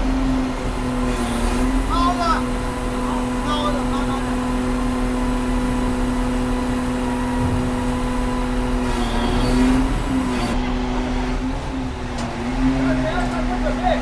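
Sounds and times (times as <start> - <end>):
diesel engine humming: 0.0 - 14.0.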